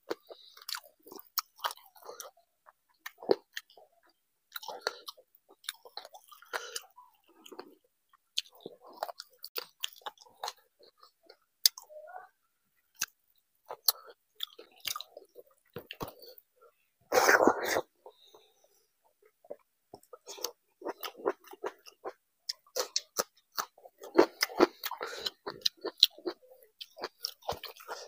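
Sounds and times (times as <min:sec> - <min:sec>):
wet chewing and mouth smacks: 0:00.1 - 0:11.8, 0:12.9 - 0:16.4, 0:19.2 - 0:28.0.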